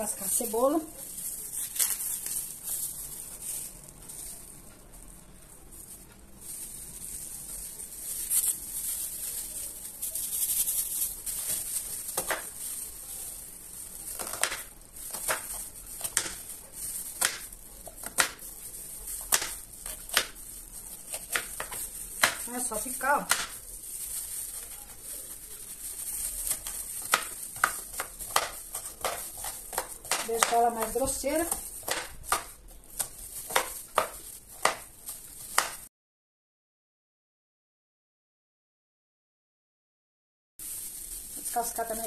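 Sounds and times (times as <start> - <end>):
onion skin and glove rustling: 0.0 - 35.9, 40.6 - 42.0.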